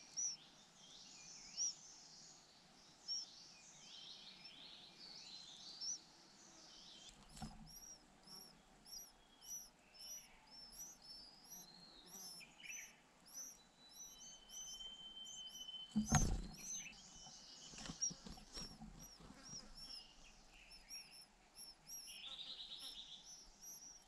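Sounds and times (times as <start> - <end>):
birds twittering and chirping: 0.0 - 24.0.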